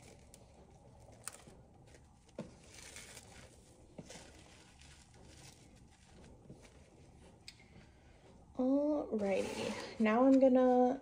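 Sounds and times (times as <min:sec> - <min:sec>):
soft rustle: 0:00.0 - 0:10.4.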